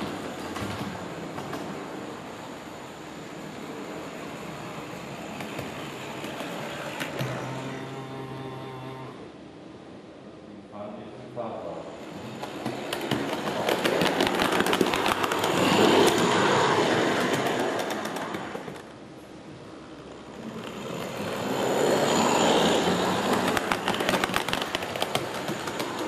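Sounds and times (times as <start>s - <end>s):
wheels clicking on rails: 0.0s - 8.2s, 12.0s - 19.1s, 19.7s - 26.0s
model trams rumbling on track: 0.0s - 9.6s, 11.9s - 19.0s, 19.7s - 26.0s.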